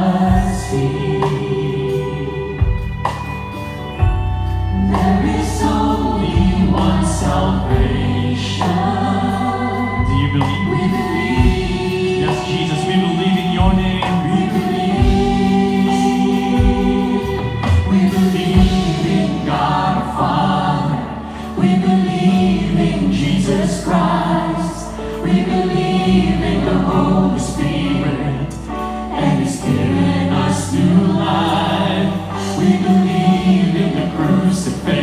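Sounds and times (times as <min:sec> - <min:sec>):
band playing worship music: 0:00.0 - 0:35.0
choir singing: 0:00.0 - 0:35.0
deep bass notes: 0:00.0 - 0:35.0.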